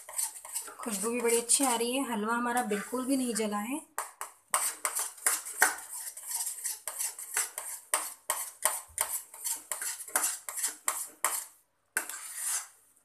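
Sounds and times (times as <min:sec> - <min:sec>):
spatula scraping a pan: 0:00.0 - 0:12.8.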